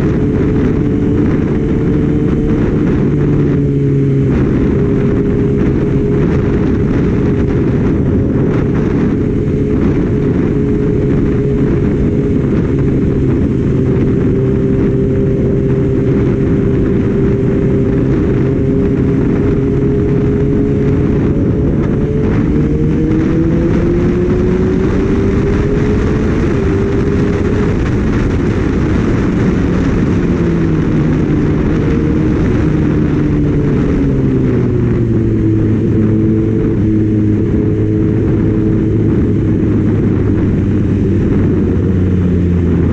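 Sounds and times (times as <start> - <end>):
motorcycle engine running: 0.0 - 42.9
wind noise on microphone: 0.0 - 42.9.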